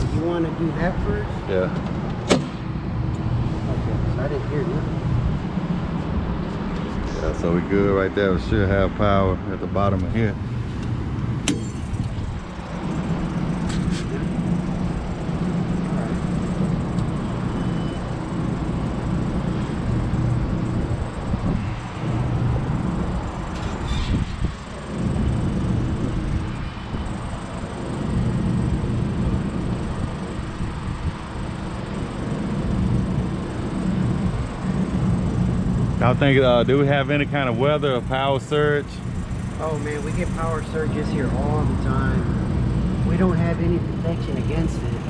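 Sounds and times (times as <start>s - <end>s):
low machinery drone: 0.0s - 45.0s.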